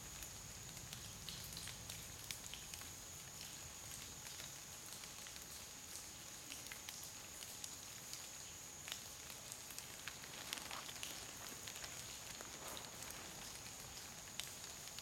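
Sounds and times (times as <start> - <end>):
light ticks and crackles: 0.0 - 15.0.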